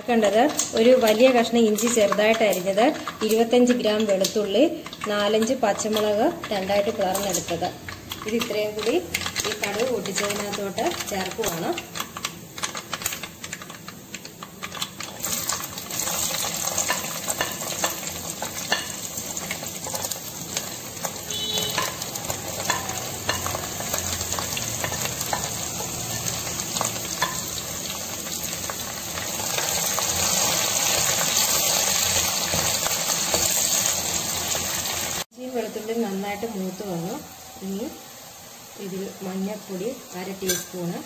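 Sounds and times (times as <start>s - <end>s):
frying sizzle with crackling pops: 0.0s - 41.0s.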